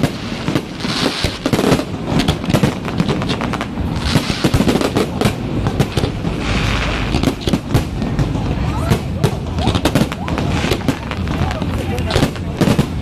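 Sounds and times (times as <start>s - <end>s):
fireworks bangs and crackles: 0.0s - 13.0s
fireworks hissing: 0.0s - 13.0s.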